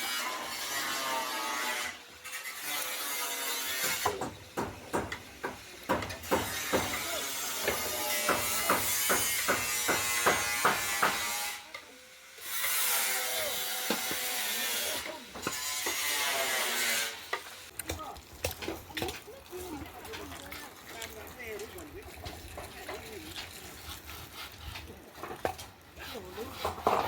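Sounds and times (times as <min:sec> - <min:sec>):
rhythmic strokes on timber: 0:00.0 - 0:27.0.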